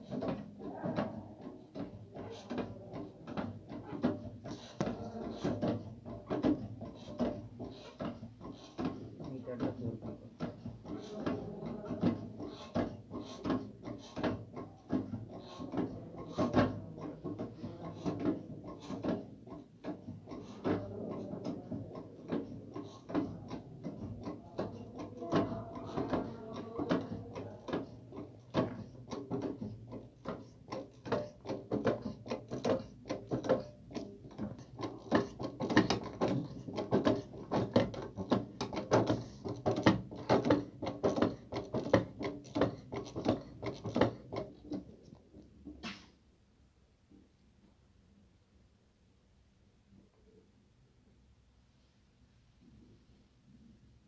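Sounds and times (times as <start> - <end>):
hand pump lever clicking and knocking: 1.7 - 45.0.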